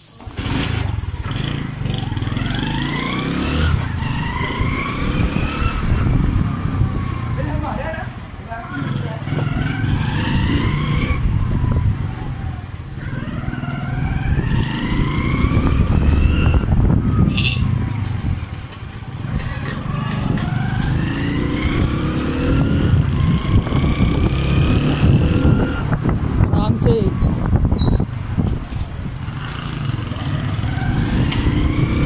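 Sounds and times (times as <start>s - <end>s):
motorcycle engine accelerating: 0.2s - 7.9s, 8.7s - 32.0s
wind rumble on microphone: 3.6s - 7.6s, 9.2s - 32.0s.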